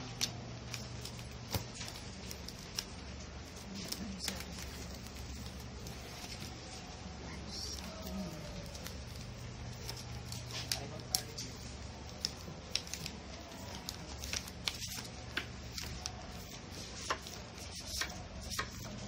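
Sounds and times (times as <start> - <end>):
paper and plastic crinkling: 0.0 - 19.0.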